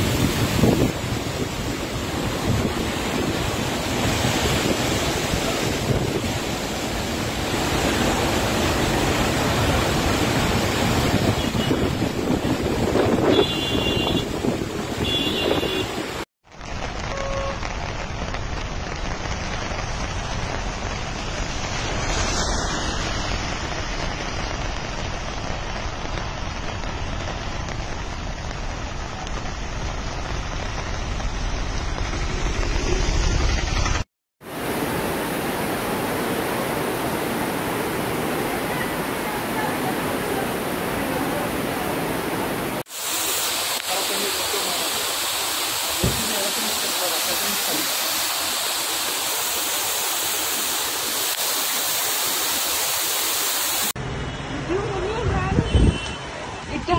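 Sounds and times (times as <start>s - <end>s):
floodwater rushing: 0.0s - 55.3s
rain hiss: 0.0s - 56.9s.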